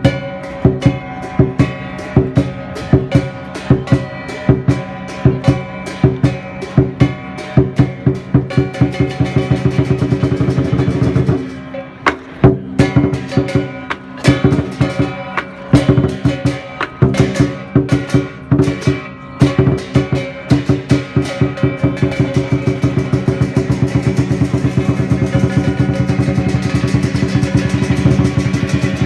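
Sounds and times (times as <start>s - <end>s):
cymbals clashing: 0.0s - 29.0s
drum beating: 0.0s - 29.0s.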